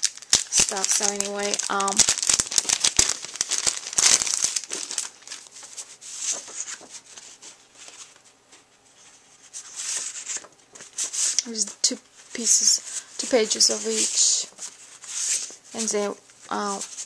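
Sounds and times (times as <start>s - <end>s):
plastic wrapping crinkling: 0.0s - 8.3s, 9.4s - 17.0s.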